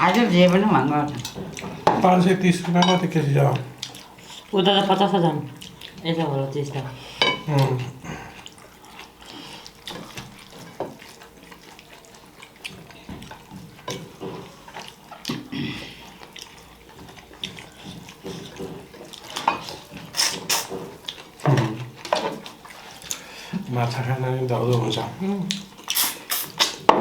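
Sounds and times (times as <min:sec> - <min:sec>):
wet chewing and mouth smacking: 0:00.0 - 0:26.9.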